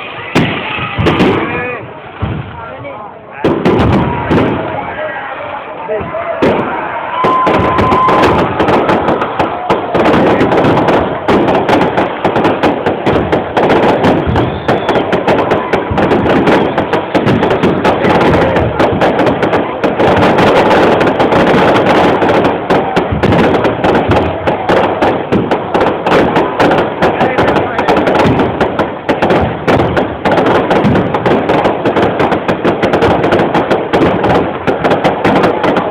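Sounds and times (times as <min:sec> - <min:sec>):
fireworks crackling and banging: 0:00.0 - 0:35.9.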